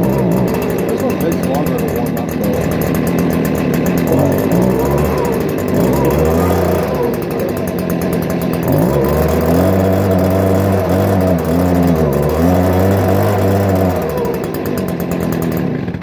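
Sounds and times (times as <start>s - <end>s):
leaf blower engine revving: 0.0s - 16.0s.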